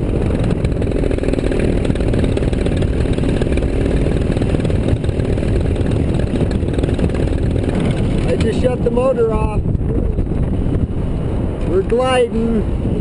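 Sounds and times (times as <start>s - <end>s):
small aircraft motor: 0.0s - 13.0s.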